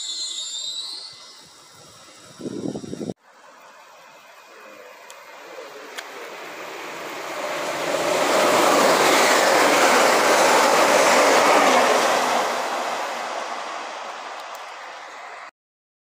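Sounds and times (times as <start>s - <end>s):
train passing at speed: 0.0s - 15.5s.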